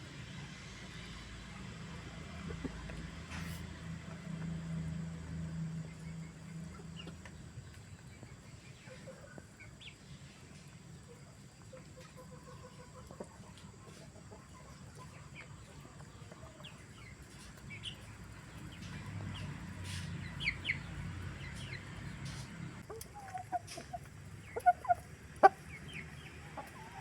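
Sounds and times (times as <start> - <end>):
chickens clucking: 0.8 - 4.6, 5.2 - 27.0.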